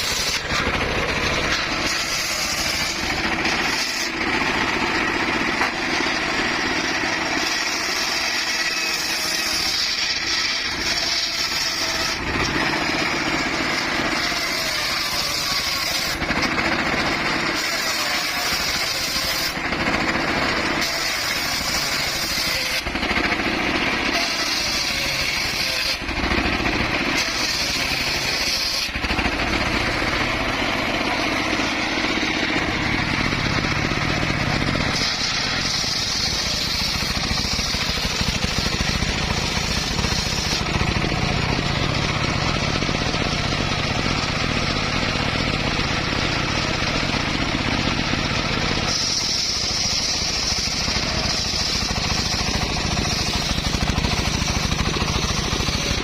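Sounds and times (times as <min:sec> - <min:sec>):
circular saw cutting wood: 0:00.0 - 0:56.0.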